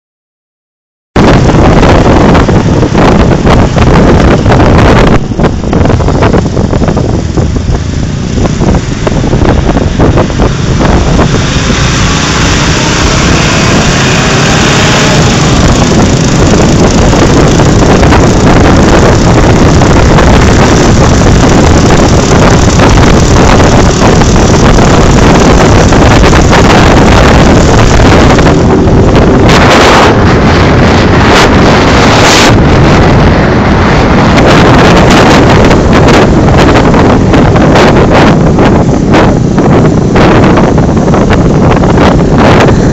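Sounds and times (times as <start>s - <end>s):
motorcycle engine running: 1.2s - 42.9s
wind buffeting microphone: 1.2s - 42.9s.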